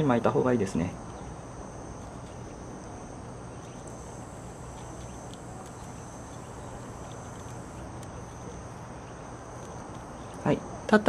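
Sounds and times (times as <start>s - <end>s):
high-pitched insect chirring: 0.0s - 11.0s
low hum: 0.0s - 11.0s.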